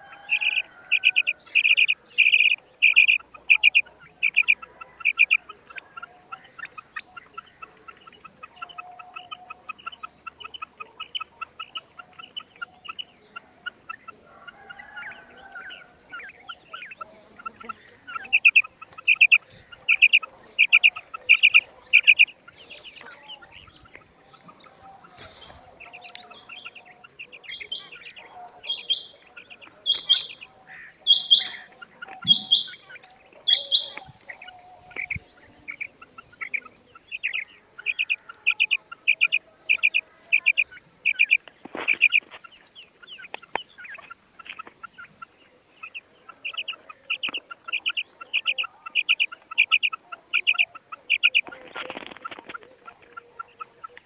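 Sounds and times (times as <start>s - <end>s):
quail calling: 0.0s - 54.0s.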